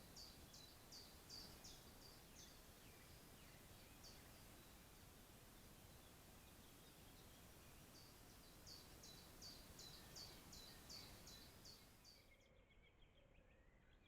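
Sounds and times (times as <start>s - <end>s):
steady hiss: 0.0s - 11.9s
faint songbird song: 0.0s - 14.0s.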